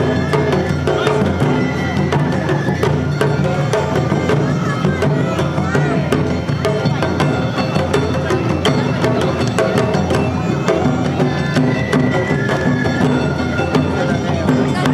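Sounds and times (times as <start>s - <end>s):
bamboo flute notes: 0.0s - 14.9s
hand bells clanging: 0.0s - 14.9s
taiko drums beating: 0.0s - 14.9s.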